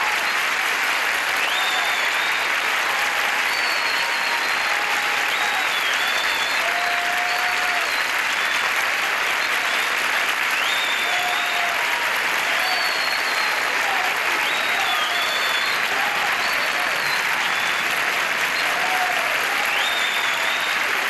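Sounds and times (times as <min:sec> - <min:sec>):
audience applauding: 0:00.0 - 0:21.0
audience calls: 0:00.0 - 0:21.0
whistles: 0:00.1 - 0:00.6, 0:01.3 - 0:02.7, 0:03.3 - 0:11.8, 0:12.5 - 0:21.0.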